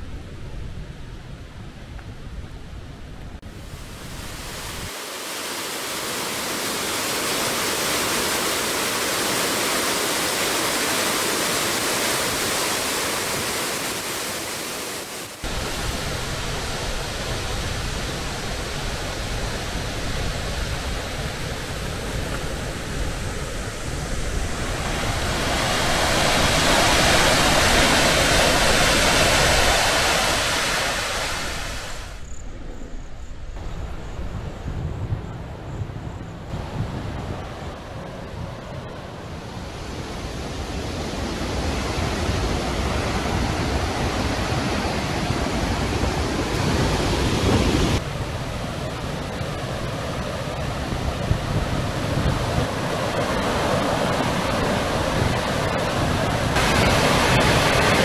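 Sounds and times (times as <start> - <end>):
waterfall rushing: 3.6 - 32.2, 39.1 - 58.0.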